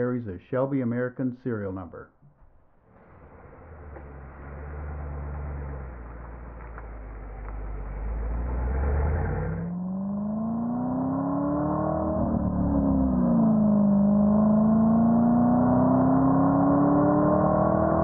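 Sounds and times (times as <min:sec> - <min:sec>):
car engine accelerating: 0:02.7 - 0:18.0.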